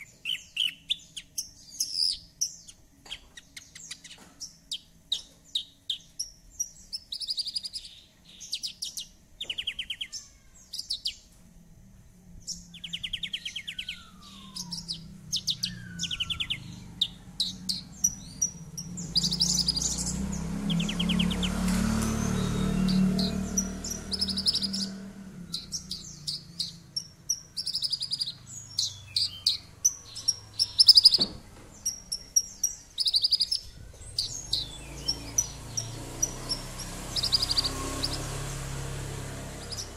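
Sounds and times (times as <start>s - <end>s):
lark singing chattering song: 0.0s - 11.3s, 12.5s - 39.9s.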